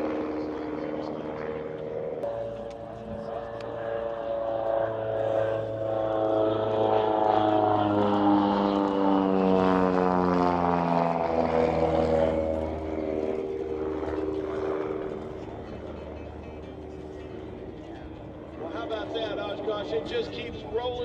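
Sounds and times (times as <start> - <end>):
propeller plane passing low: 0.0 - 21.0.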